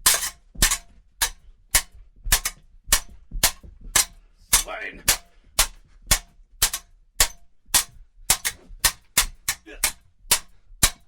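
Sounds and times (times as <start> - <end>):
swords clashing: 0.0 - 11.0.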